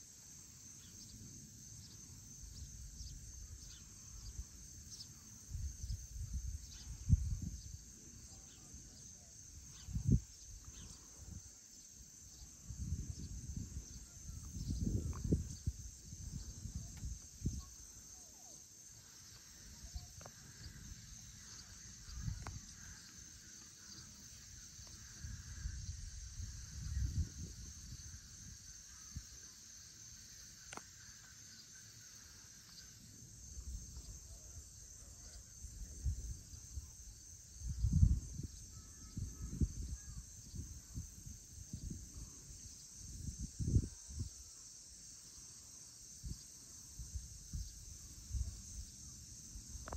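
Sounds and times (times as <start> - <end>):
crickets and insects chirping: 0.0 - 49.9.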